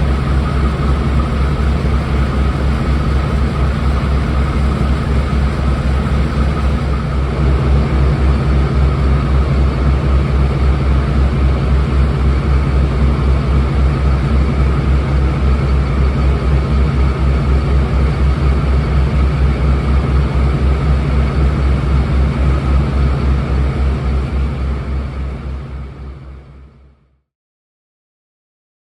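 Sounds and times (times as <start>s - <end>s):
diesel locomotive engines throbbing: 0.0s - 26.3s.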